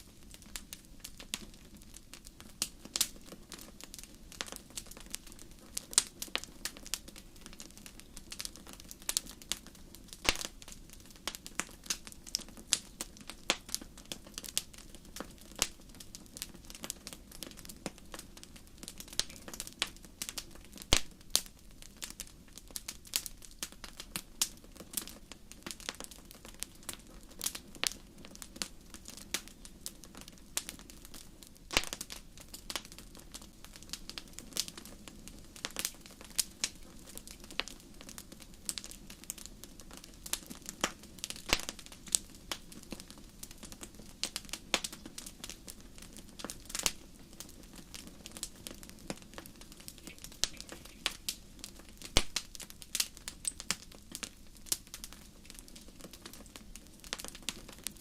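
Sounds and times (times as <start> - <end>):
campfire popping and snapping: 0.0 - 58.0
low rush of flames: 0.0 - 58.0.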